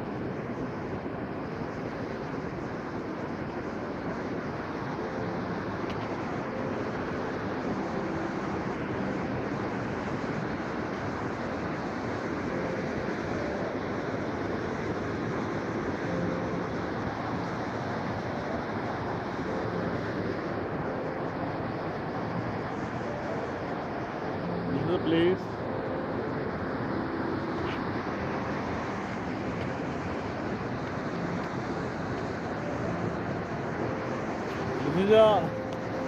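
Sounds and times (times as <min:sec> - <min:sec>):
fast-flowing river rushing: 0:00.0 - 0:36.0.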